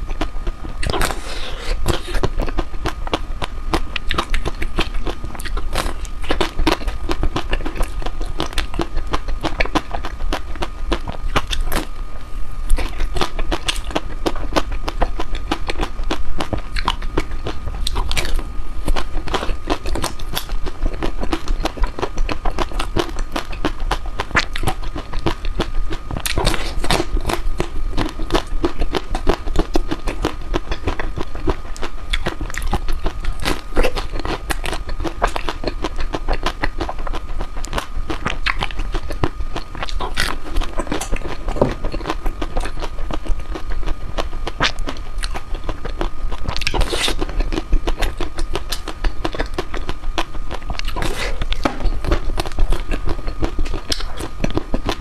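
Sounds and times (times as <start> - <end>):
person chewing ice cream: 0.0 - 55.0.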